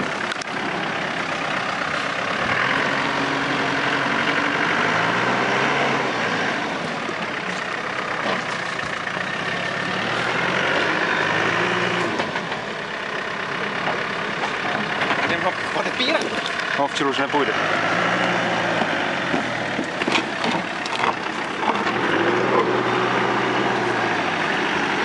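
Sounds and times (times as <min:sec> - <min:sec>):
diesel engine revving under load: 0:00.0 - 0:25.0.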